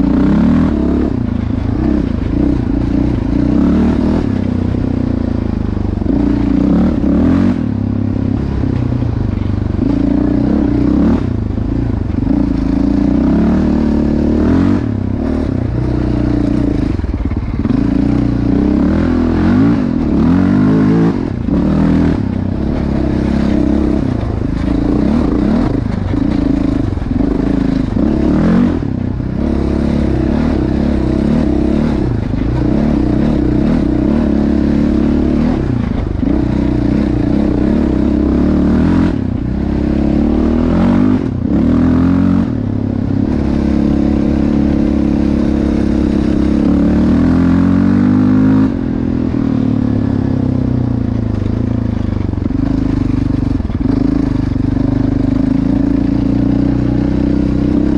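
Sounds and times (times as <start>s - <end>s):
quad engine revving: 0.0s - 57.9s.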